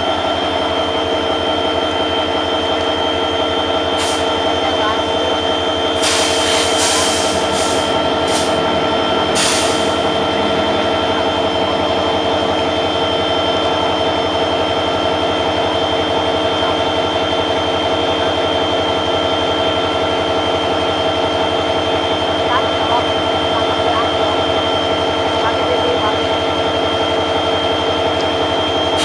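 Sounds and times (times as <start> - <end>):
diesel locomotive engine running: 0.0 - 29.0.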